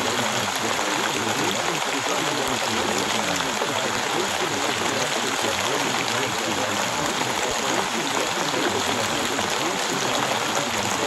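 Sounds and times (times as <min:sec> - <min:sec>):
faint overlapping voices: 0:00.0 - 0:11.0
steady rain hiss: 0:00.0 - 0:11.0.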